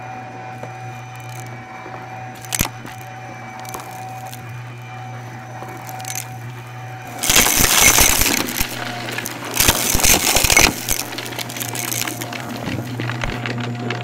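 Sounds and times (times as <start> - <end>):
upright vacuum humming: 0.0 - 14.0
vacuum crunching debris: 1.1 - 1.6, 2.3 - 14.0.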